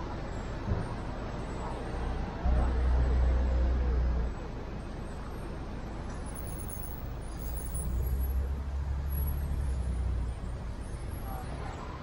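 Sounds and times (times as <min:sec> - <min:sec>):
distant car traffic: 0:00.0 - 0:12.0
low street rumble: 0:00.0 - 0:12.0.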